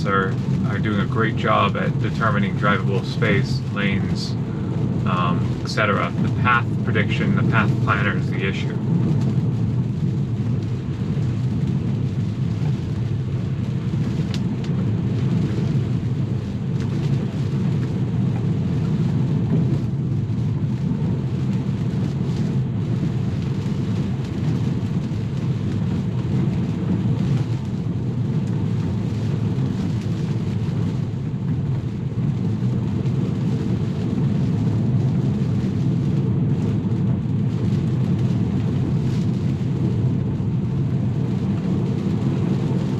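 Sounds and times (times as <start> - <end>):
rain on a car: 0.0 - 42.9
tyre and road noise: 0.0 - 42.9.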